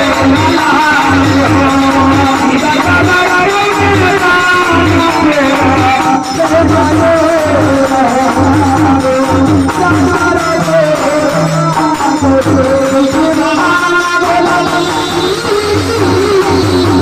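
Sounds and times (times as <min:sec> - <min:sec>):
hand drum beat: 0:00.0 - 0:17.0
rattling percussion: 0:00.0 - 0:17.0.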